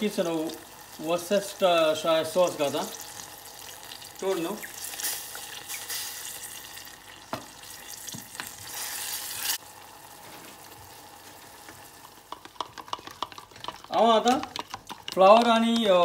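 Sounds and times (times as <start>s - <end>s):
sauce sizzling in a pan: 0.0s - 13.1s.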